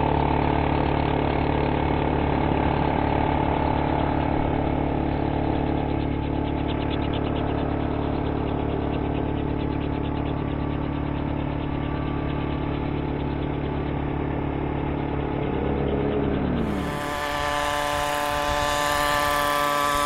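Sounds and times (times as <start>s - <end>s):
model helicopter engine and rotor: 0.0s - 20.0s.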